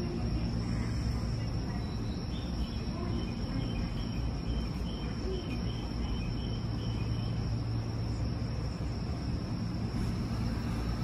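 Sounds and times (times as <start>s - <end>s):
electric trains humming: 0.0s - 11.0s
insects chirping: 0.0s - 11.0s.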